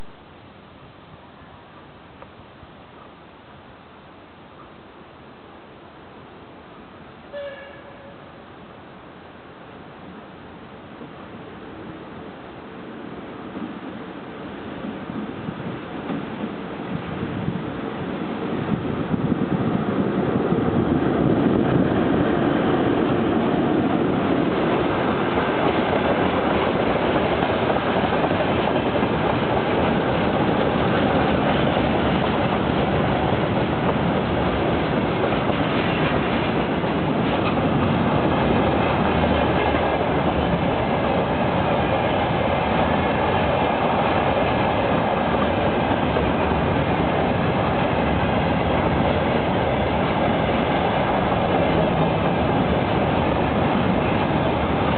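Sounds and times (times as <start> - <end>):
freight train passing: 0.0 - 0.4, 1.2 - 54.9.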